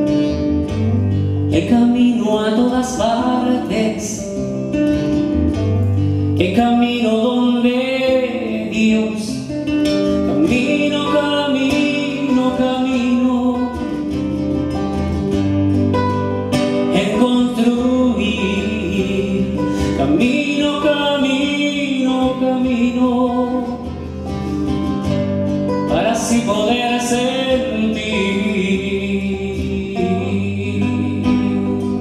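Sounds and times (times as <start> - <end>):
man singing: 0.0 - 15.1, 16.6 - 24.3, 25.7 - 32.0
acoustic guitars playing: 0.0 - 32.0.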